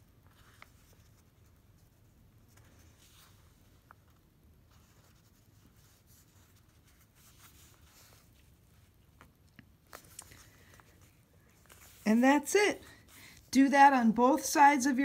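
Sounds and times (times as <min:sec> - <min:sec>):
fingers rustling thread and paper: 0:00.0 - 0:15.0.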